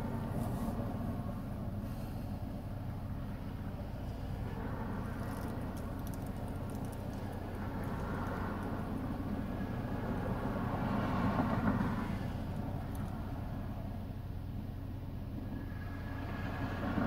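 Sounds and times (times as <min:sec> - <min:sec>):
car idling hum: 0:00.0 - 0:17.0
passing traffic: 0:00.0 - 0:17.0.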